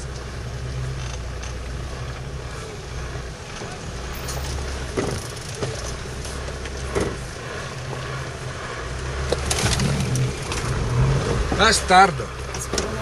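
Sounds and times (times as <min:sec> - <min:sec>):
engine running low and steady: 0:00.0 - 0:13.0
vehicle knocks and rattles: 0:00.0 - 0:13.0.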